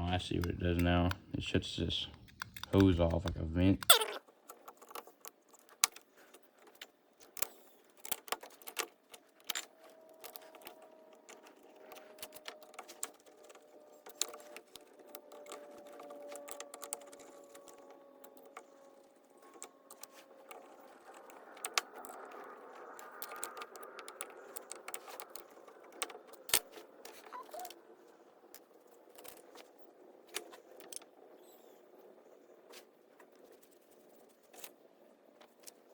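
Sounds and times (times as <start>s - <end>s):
faint hum: 0.0s - 4.0s, 9.1s - 35.9s
small metal parts clicking: 2.2s - 32.1s.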